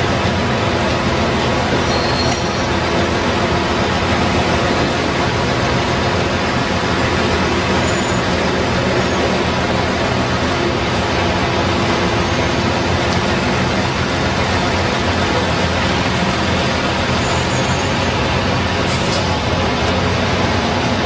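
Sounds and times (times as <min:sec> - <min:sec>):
truck diesel engine revving: 0:00.0 - 0:21.0.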